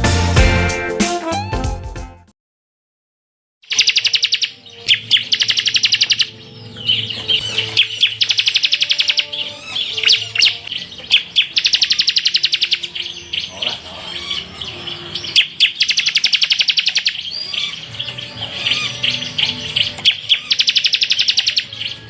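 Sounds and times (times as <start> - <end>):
bird singing fast rattling trills: 3.6 - 13.6, 14.2 - 22.0.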